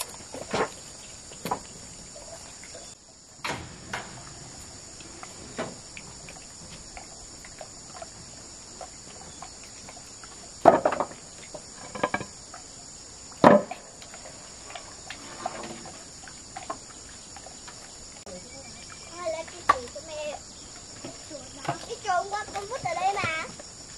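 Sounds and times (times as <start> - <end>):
insect chorus: 0.0 - 23.9.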